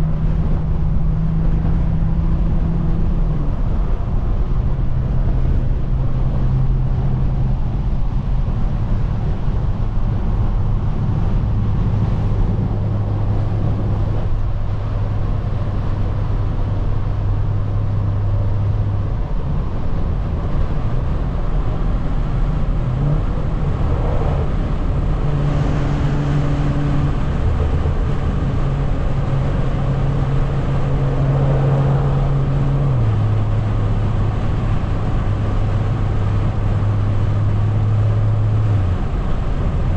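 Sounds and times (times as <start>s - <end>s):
car exhaust drone: 0.0s - 39.9s
road noise: 0.0s - 39.9s.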